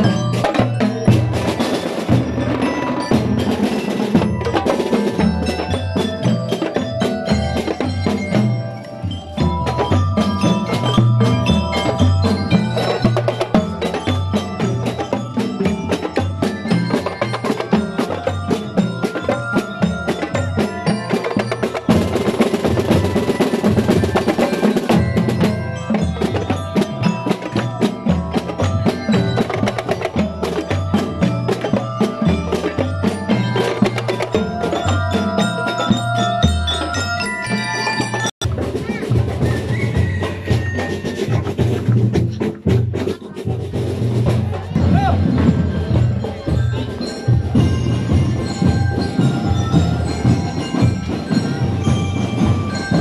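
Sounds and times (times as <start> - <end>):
bell lyres ringing a melody: 0.0 - 53.0
marching snare and tenor drums: 0.0 - 53.0.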